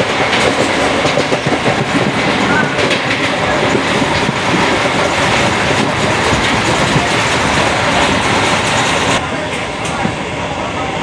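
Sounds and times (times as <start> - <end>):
train wheel clacks: 0.0 - 10.2
train wheels rumbling on rail: 0.0 - 11.0.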